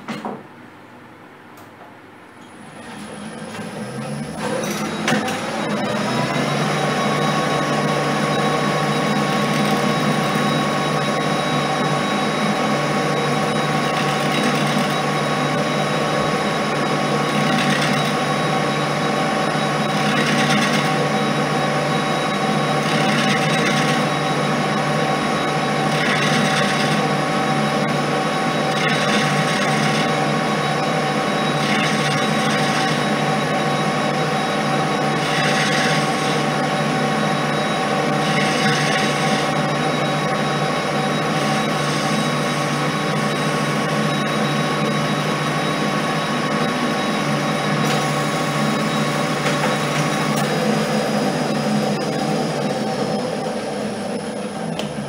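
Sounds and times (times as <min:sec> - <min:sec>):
lathe running with whine: 0:02.5 - 0:55.0.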